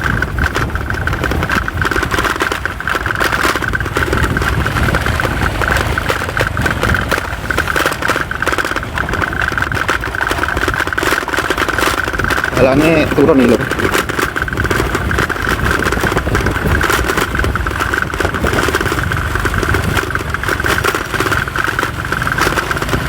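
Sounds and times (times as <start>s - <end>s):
motorcycle engine running: 0.0s - 23.0s
wind buffeting: 0.0s - 23.0s.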